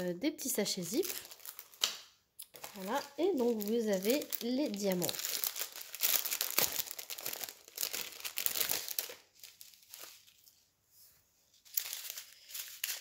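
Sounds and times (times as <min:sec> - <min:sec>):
plastic bags crinkling: 0:00.9 - 0:10.5, 0:11.6 - 0:13.0.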